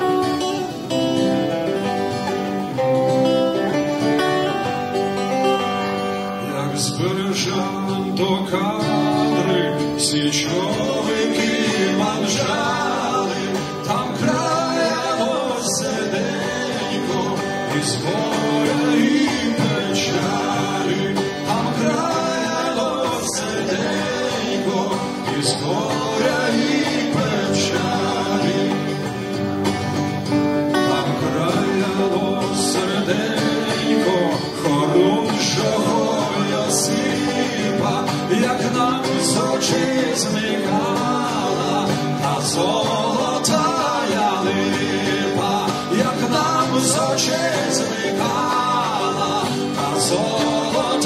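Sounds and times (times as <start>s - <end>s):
electric guitar playing: 0.0s - 51.0s
strummed acoustic guitar: 0.0s - 51.0s
man singing: 3.6s - 29.4s, 30.7s - 51.0s.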